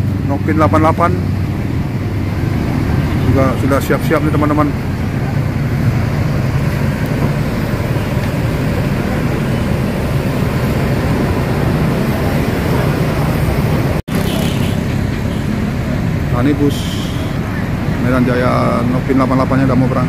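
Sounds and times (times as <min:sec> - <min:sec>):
diesel bus engine idling: 0:00.0 - 0:20.0.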